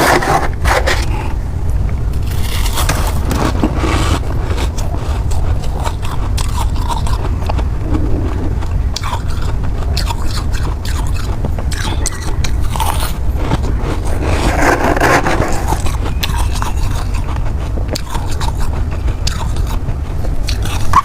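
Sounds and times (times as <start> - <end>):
steady low hum: 0.0 - 21.0
ice being chewed: 2.2 - 21.0.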